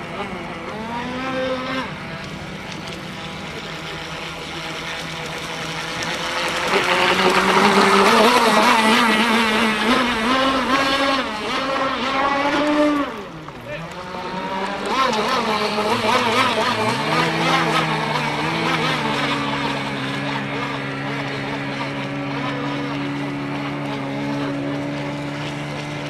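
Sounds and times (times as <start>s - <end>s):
model boat engine running: 0.0s - 26.0s.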